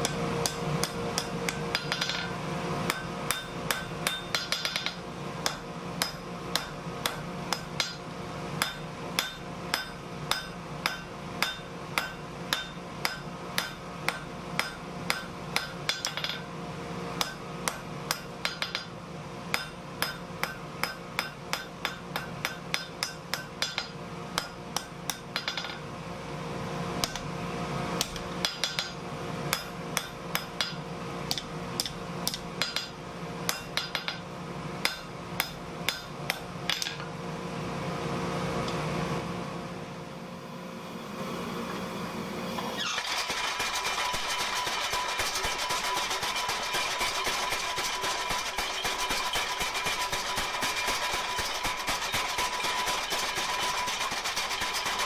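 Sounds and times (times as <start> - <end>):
power hammer striking hot steel: 0.0 - 16.5, 17.2 - 25.8, 27.0 - 27.3, 28.0 - 37.1, 42.6 - 55.0.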